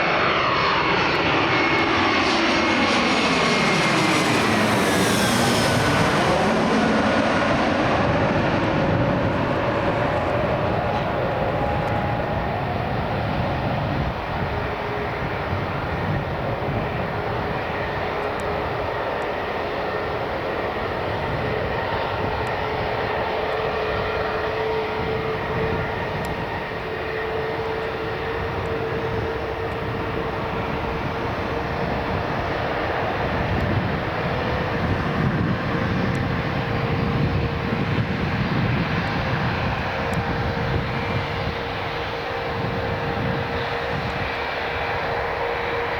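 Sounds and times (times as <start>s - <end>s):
airliner engines running: 0.0s - 45.9s.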